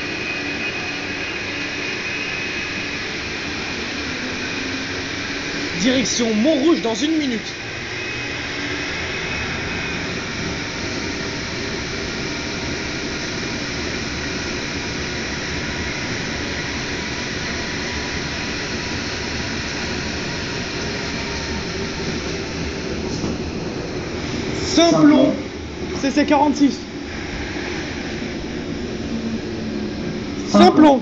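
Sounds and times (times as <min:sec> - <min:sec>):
train running through tunnel: 0:00.0 - 0:31.0.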